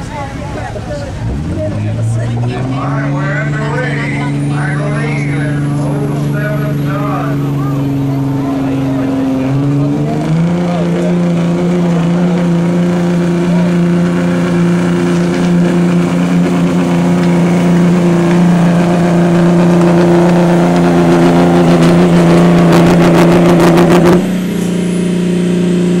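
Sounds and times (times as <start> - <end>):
engine running hard: 0.0 - 26.0.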